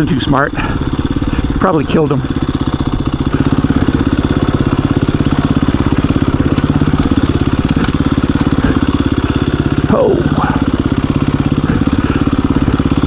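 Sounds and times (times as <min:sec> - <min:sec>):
dirt bike engine at low revs: 0:00.0 - 0:13.0.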